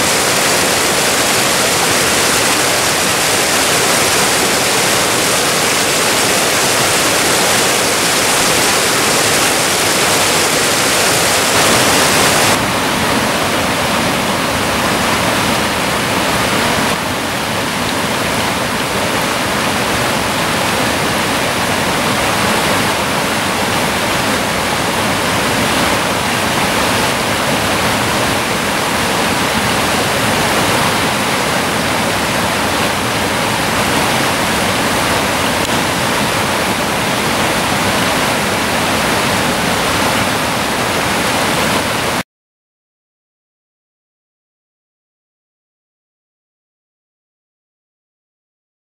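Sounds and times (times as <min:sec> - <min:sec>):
waterfall rushing: 0:00.0 - 0:42.2.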